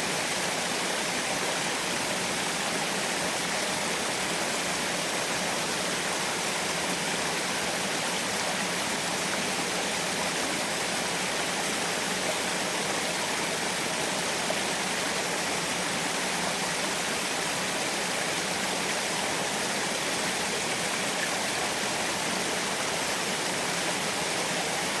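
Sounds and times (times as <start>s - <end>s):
small waterfall running: 0.0s - 25.0s.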